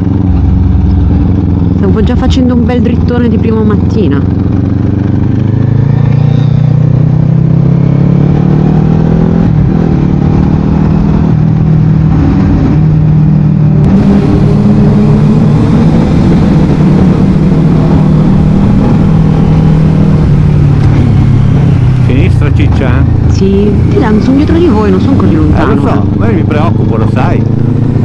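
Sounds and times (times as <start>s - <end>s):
motorcycle engine running: 0.0s - 28.0s
road noise rushing: 0.0s - 28.0s.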